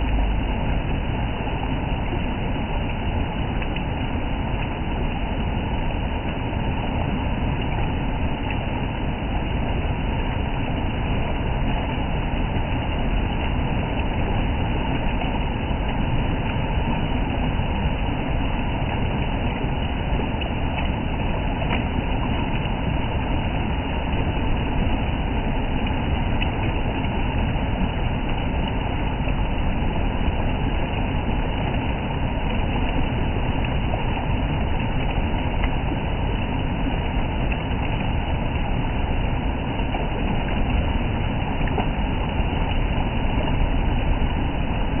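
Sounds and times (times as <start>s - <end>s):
stream water rushing over rocks: 0.0s - 45.0s.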